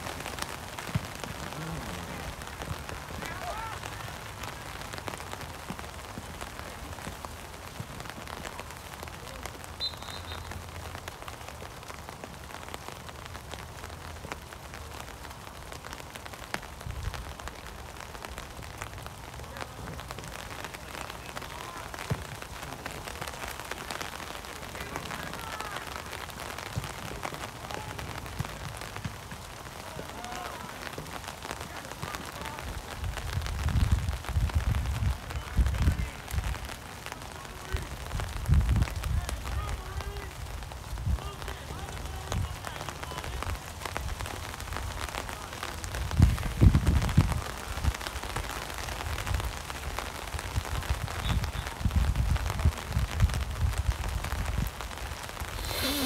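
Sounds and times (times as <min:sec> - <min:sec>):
raindrops ticking: 0:00.0 - 0:56.0
steady rain falling: 0:00.0 - 0:56.0.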